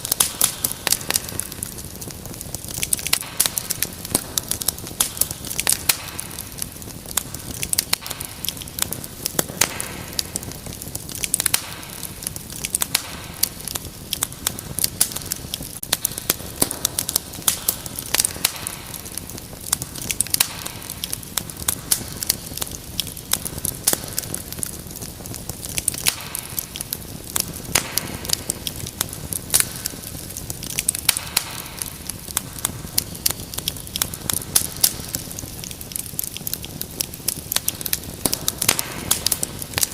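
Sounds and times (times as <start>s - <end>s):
fire crackling and popping: 0.0s - 39.9s
flames rushing: 0.0s - 39.9s.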